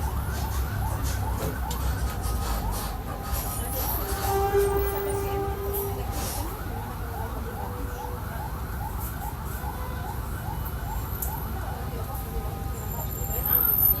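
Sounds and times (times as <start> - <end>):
siren yelping: 0.0 - 13.9
bus engine rumble: 0.0 - 14.0.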